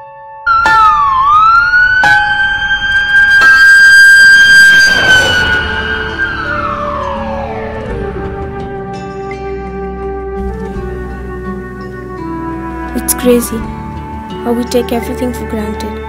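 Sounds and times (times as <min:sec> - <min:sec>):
emergency siren wailing: 0:00.4 - 0:14.5.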